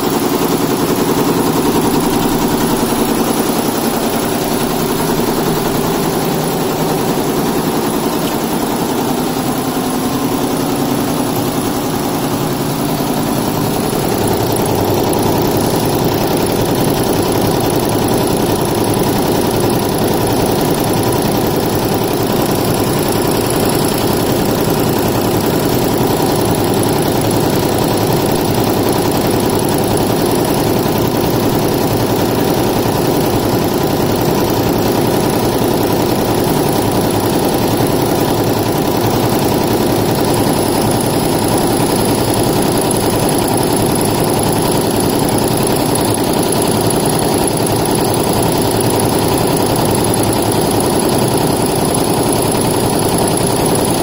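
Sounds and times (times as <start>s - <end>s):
embroidery machine stitching: 0.0s - 54.0s.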